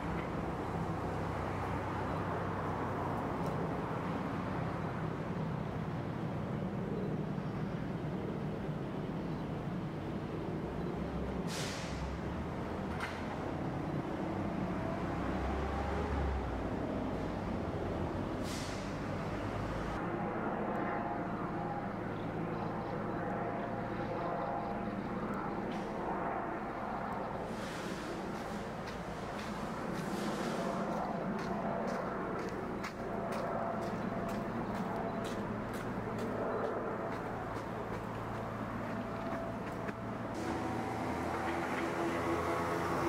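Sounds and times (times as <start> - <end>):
airplane engine drone: 0.0 - 43.0
distant road traffic rumble: 0.0 - 43.0.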